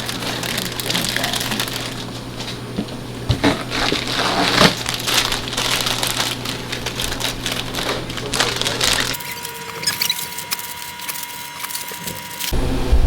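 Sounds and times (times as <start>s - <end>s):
plastic snack bags crinkling: 0.0s - 2.8s, 3.4s - 12.5s.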